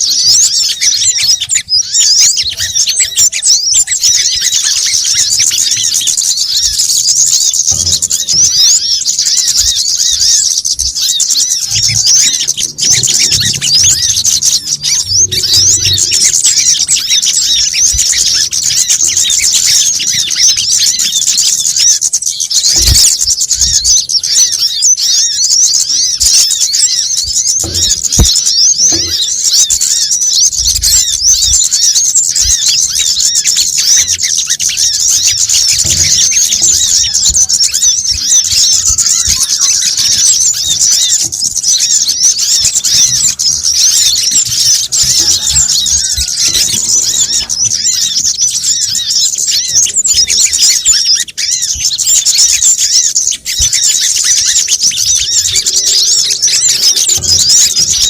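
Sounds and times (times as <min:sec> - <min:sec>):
sunbirds chirping: 0:00.0 - 0:58.0.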